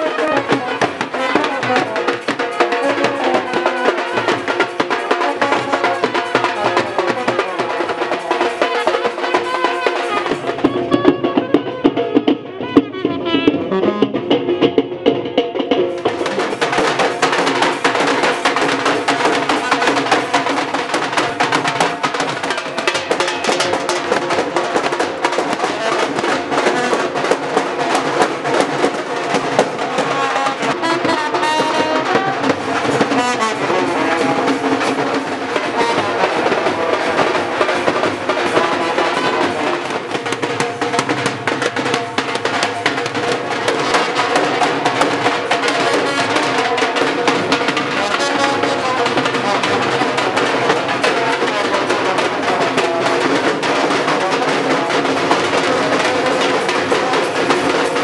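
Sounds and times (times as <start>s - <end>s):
brass band playing melody: 0.0s - 14.6s, 16.0s - 58.0s
drums beaten in dense rhythm: 0.0s - 58.0s.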